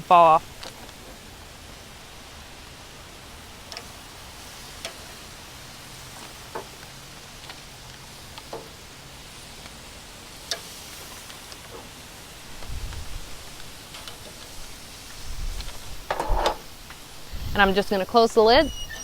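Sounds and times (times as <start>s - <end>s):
food sizzling on a hot grill: 0.0s - 19.0s.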